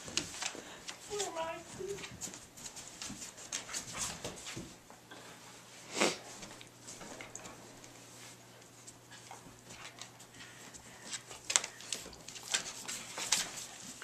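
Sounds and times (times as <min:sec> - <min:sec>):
puppies scuffling: 0:00.0 - 0:05.0, 0:06.3 - 0:14.0.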